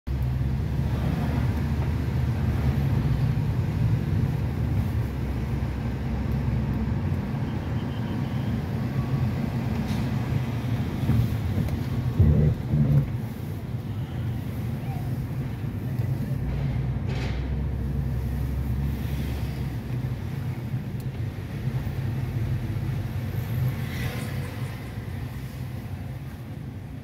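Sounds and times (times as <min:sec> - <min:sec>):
car engine and road rumble: 0:00.1 - 0:27.0.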